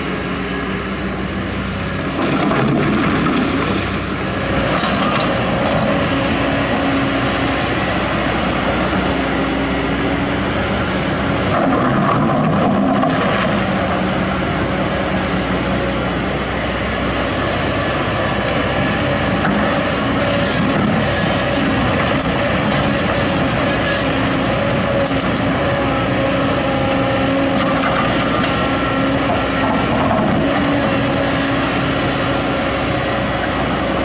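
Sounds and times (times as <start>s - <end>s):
excavator engine droning: 0.0s - 34.0s.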